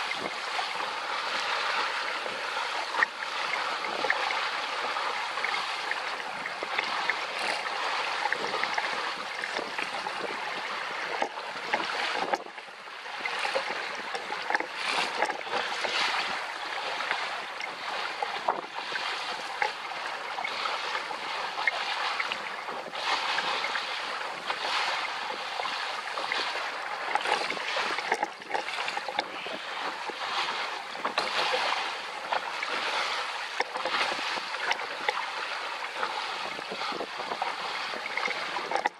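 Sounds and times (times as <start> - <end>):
water rushing along a boat hull: 0.0 - 38.9.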